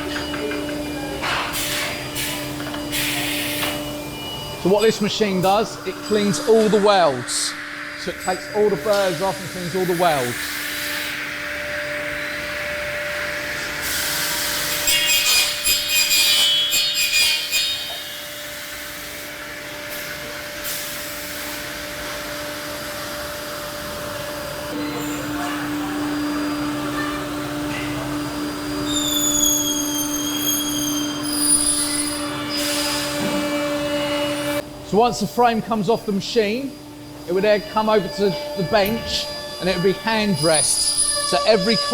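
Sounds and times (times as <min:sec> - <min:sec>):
high machine whine: 0:00.0 - 0:41.9.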